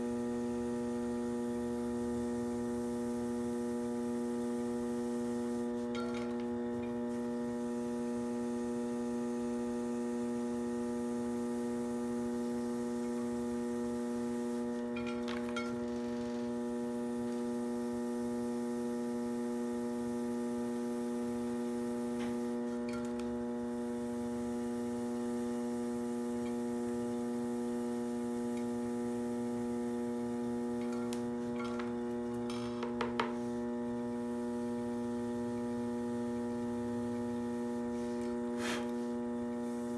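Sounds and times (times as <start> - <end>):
potter's wheel electrical hum: 0.0 - 39.9.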